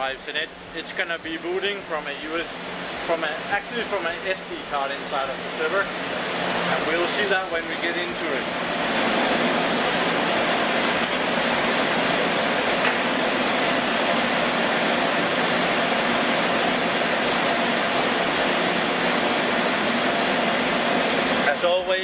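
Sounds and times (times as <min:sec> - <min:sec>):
fan and air-conditioning hum: 0:00.0 - 0:22.0.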